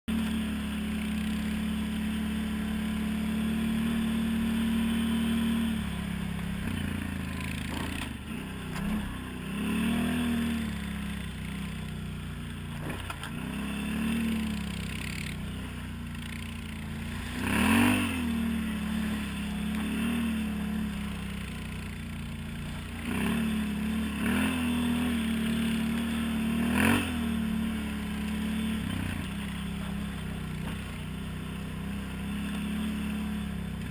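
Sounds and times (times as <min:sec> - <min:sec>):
atv engine revving: 0:00.1 - 0:33.9.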